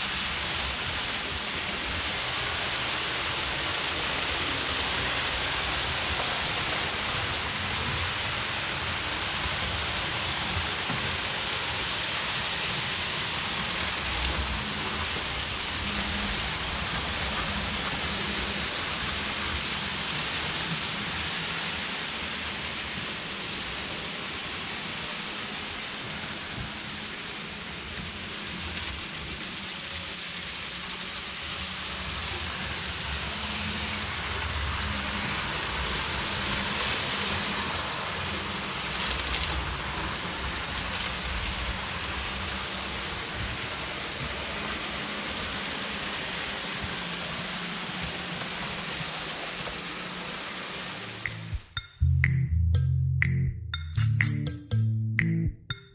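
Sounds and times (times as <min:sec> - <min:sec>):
model trains rushing on track: 0:00.0 - 0:51.3.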